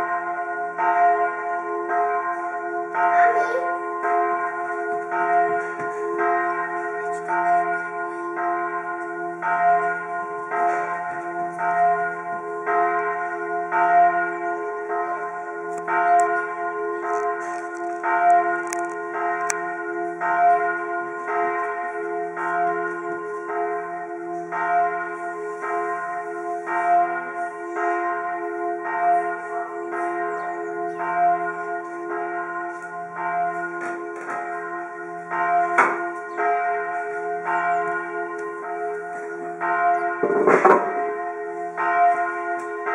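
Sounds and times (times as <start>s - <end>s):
church bells ringing a peal: 0.0s - 42.9s.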